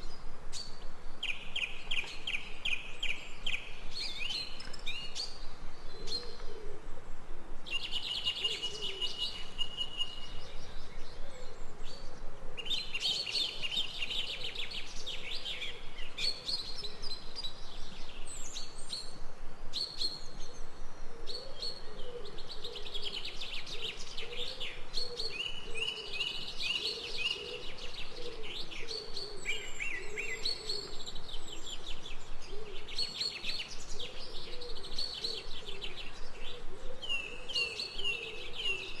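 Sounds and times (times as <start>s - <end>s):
low wavering bird calls: 0.0s - 19.2s, 19.8s - 39.0s
background hiss: 0.0s - 39.0s
birds chirping and singing: 7.7s - 39.0s.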